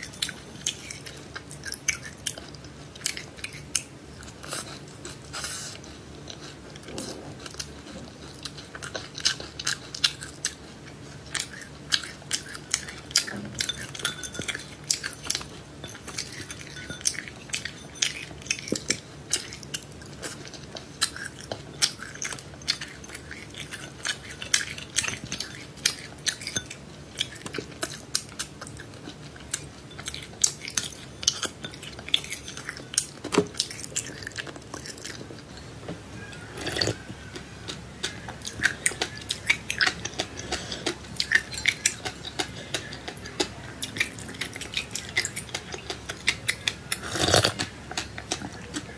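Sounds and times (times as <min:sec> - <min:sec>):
person chewing seeds: 0:00.0 - 0:48.9.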